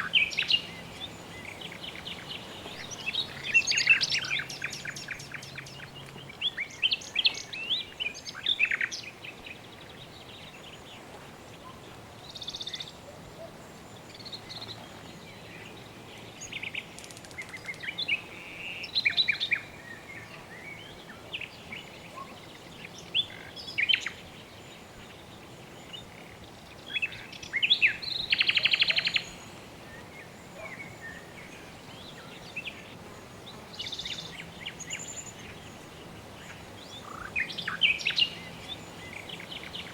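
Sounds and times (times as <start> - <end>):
soft background hiss: 0.0 - 39.9.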